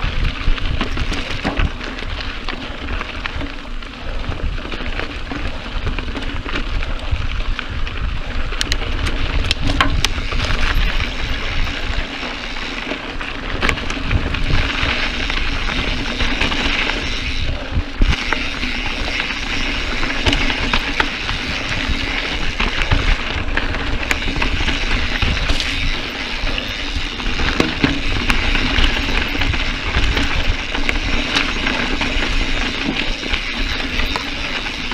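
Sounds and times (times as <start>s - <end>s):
wind buffeting microphone: 0.0s - 2.4s, 3.0s - 12.7s, 13.4s - 34.9s
bike clicks and knocks: 0.0s - 34.9s
tyres crunching over dirt trail: 0.0s - 34.9s.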